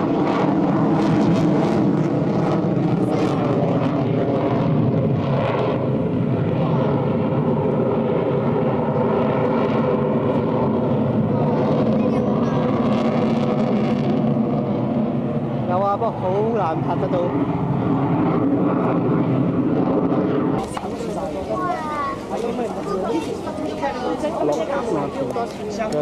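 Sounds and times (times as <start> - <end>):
aircraft engine drone: 0.0 - 26.0.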